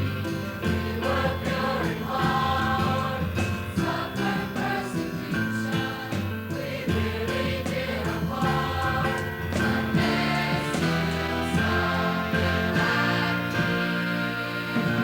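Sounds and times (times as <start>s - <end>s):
choir singing: 0.0s - 15.0s
musical accompaniment: 0.0s - 15.0s
steady bass notes: 0.0s - 15.0s.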